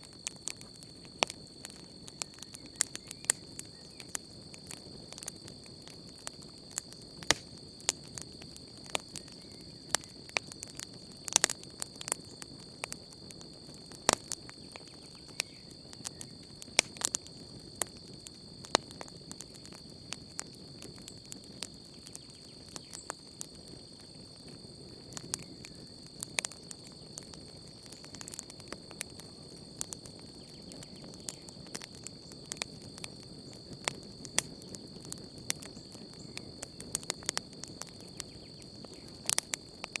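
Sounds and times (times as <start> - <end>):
campfire crackling and popping: 0.0 - 40.0
crickets chirping: 0.0 - 40.0.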